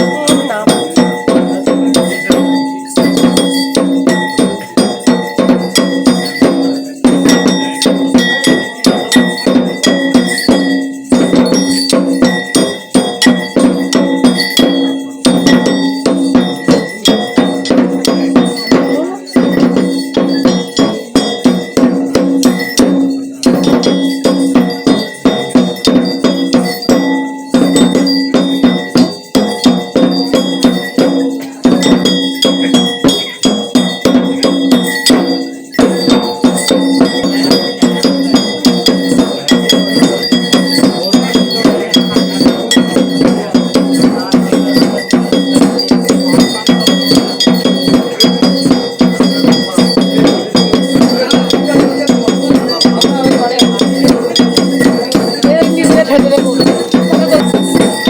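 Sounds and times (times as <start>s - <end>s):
metal bells ringing rapidly: 0.0s - 58.0s.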